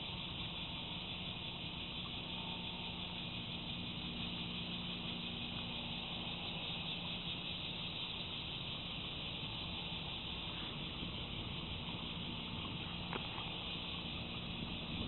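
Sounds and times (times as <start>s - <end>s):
faint low hum: 0.0s - 15.0s
high-pitched hiss: 0.0s - 15.0s.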